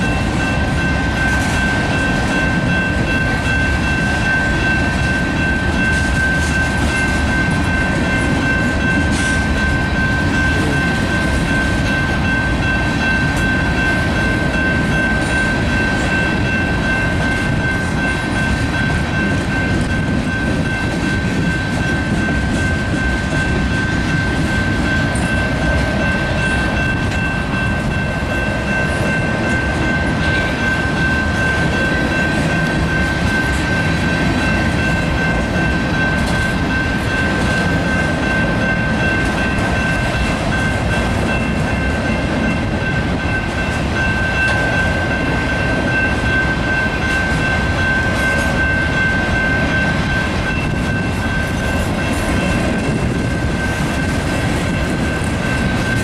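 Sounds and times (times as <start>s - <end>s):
crossing bell ringing: 0.0s - 56.0s
freight train wheels rumbling: 0.0s - 56.0s.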